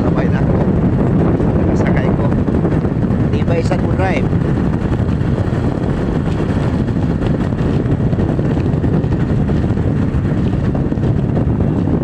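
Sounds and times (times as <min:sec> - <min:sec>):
motorcycle engine running: 0:00.0 - 0:12.0
wind on microphone: 0:00.0 - 0:12.0.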